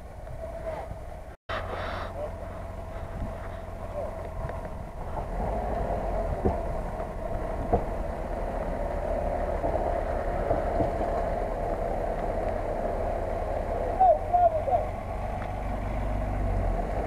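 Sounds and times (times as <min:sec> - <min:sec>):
engine running under load: 0:00.9 - 0:17.0.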